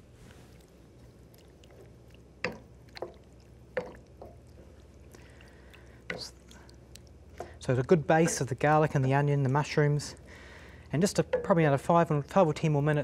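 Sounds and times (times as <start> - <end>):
wooden spoon stirring thick sauce: 0.3 - 12.9.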